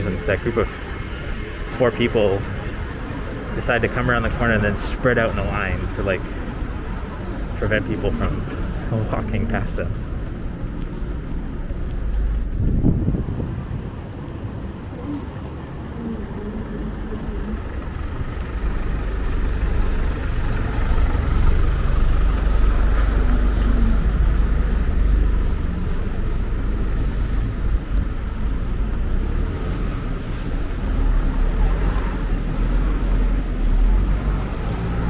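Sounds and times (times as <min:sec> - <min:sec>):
passing traffic rumble: 0:00.0 - 0:35.0.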